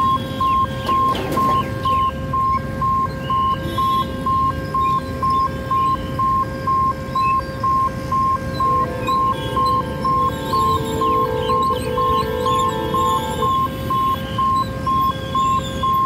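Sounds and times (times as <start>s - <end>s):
level crossing warning beeps: 0.0s - 16.0s
motorbike and scooter traffic: 0.0s - 16.0s.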